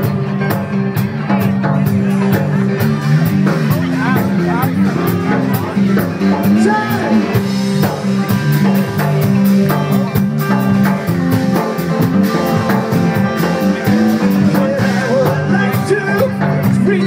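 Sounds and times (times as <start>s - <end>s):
drum kit with cymbal beat: 0.0s - 17.0s
electric bass: 0.0s - 17.0s
electric guitar: 0.0s - 17.0s.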